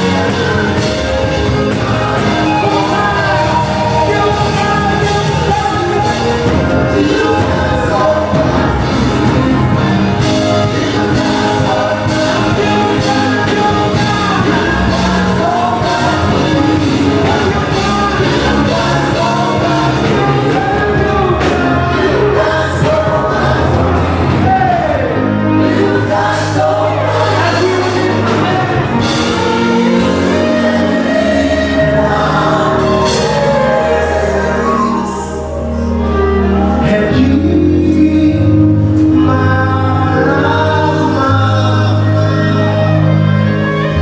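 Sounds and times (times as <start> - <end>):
worship music with singing: 0.0 - 44.0.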